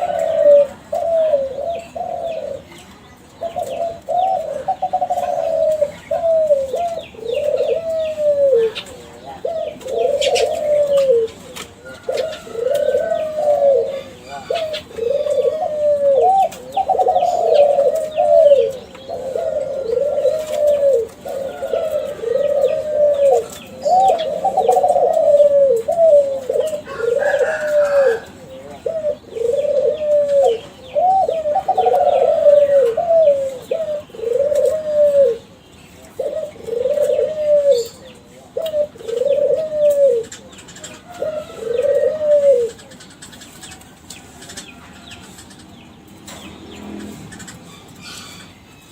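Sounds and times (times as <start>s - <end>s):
dove cooing: 0.0s - 48.9s
small birds chirping: 0.0s - 48.9s.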